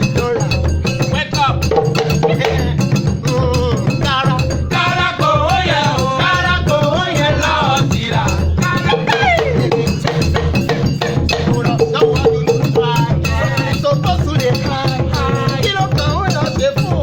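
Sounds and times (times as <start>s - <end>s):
afrobeats song: 0.0s - 17.0s.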